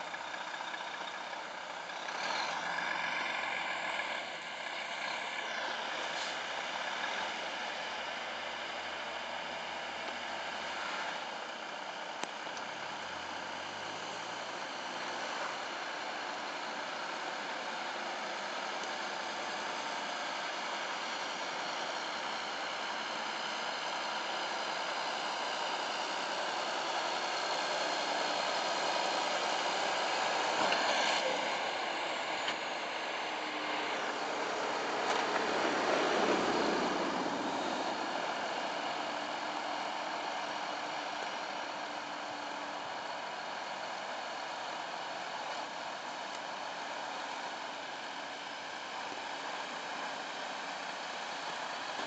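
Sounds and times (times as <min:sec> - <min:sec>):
tractor pushing snow plough: 0:00.0 - 0:52.0
vehicle engines running: 0:00.0 - 0:52.0.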